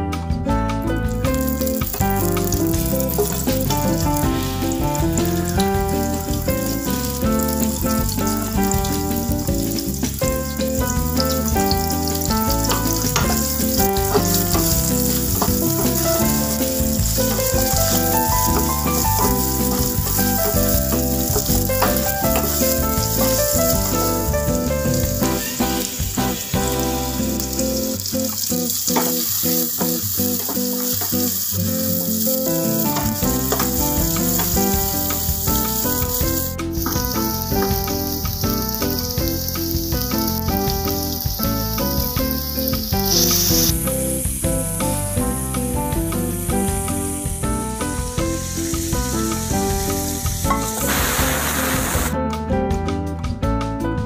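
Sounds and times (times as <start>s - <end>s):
background music: 0.0s - 30.1s, 31.3s - 54.0s
onions sizzling in hot oil: 1.3s - 52.1s.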